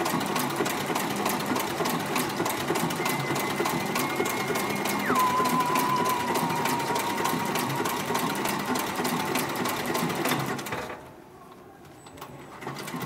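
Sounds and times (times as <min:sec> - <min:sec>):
sewing machine stitching: 0:00.0 - 0:11.0, 0:12.5 - 0:13.0.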